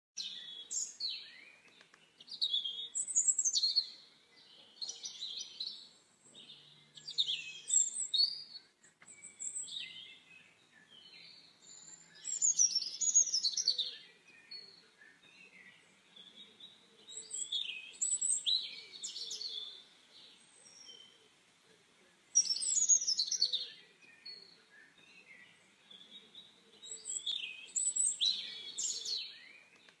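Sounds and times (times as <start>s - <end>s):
songbird chirps and trills: 0.2s - 30.0s.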